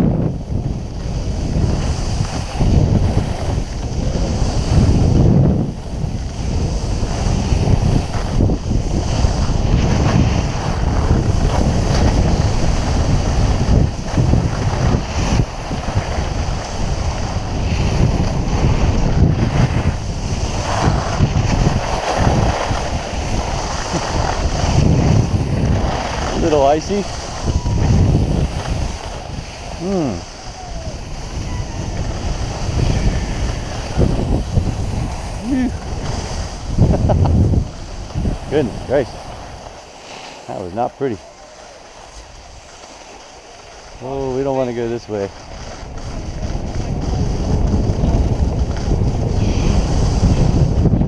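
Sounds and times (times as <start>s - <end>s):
wind rushing over microphone: 0.0s - 51.0s
skis scraping over icy snow: 0.2s - 51.0s.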